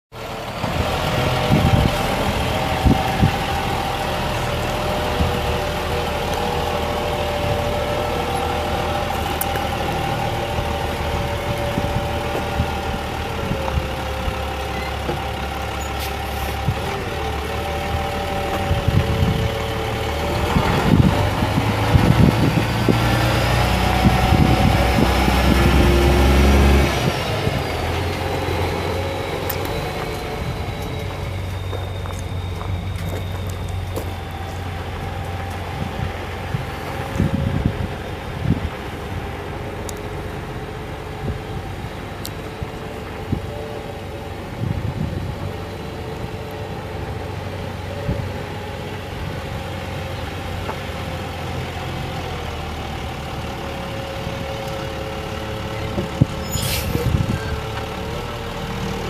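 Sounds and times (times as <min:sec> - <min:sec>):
rising engine whine: 0:00.1 - 0:59.0
diesel truck engine idling: 0:00.2 - 0:59.0.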